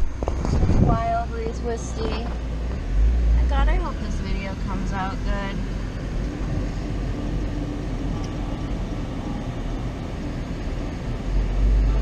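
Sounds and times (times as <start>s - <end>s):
road and engine noise in car cabin: 0.0s - 12.0s.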